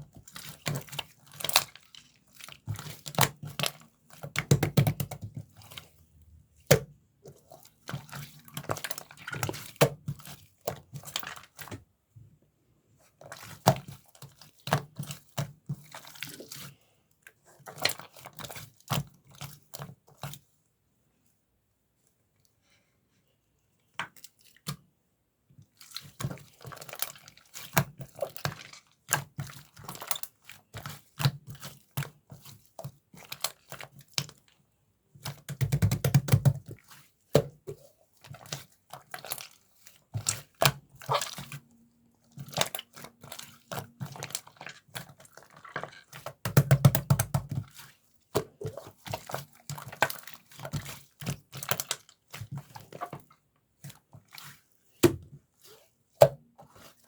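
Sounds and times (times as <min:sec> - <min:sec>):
slime squishing by hand: 0:00.0 - 0:12.0, 0:13.0 - 0:16.9, 0:25.6 - 0:34.6, 0:35.2 - 0:57.0.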